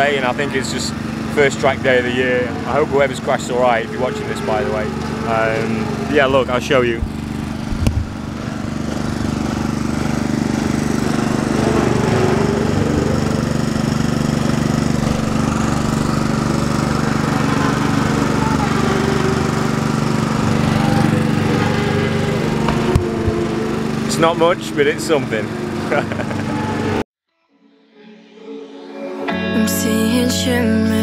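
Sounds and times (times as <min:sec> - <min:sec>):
engine running steadily: 0:00.0 - 0:27.0
faint engines rising and falling: 0:00.0 - 0:27.0.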